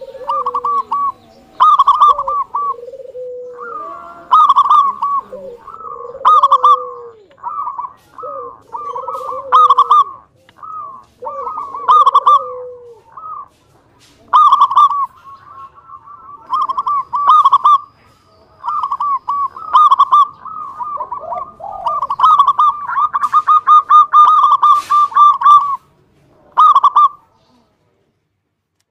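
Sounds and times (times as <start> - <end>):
dove cooing: 0.0 - 27.7.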